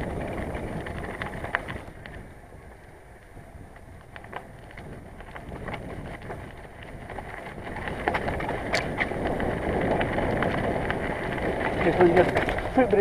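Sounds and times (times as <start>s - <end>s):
bicycle rattling and clicking: 0.0s - 13.0s
bicycle tyre noise: 0.0s - 13.0s
wind on microphone: 0.0s - 13.0s.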